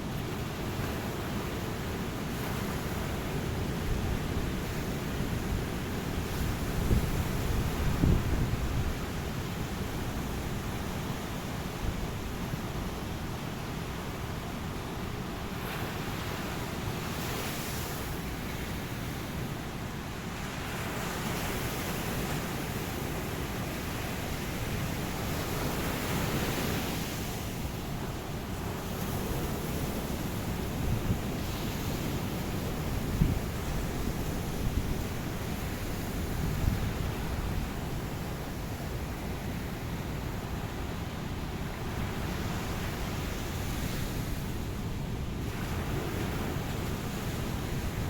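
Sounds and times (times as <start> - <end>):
waves on a beach: 0.0 - 48.0.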